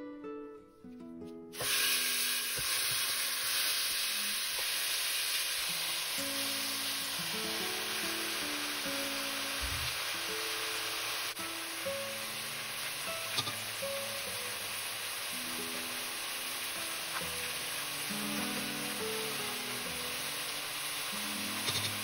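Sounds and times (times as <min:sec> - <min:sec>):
soft guitar music: 0:00.0 - 0:22.0
chicken sizzling in a pot: 0:01.6 - 0:22.0.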